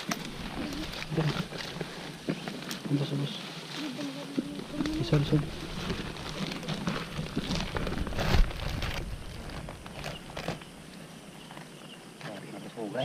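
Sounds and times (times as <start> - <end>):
plastic bags rustling: 0.0 - 10.8
undergrowth rustling and crackling: 0.0 - 12.9.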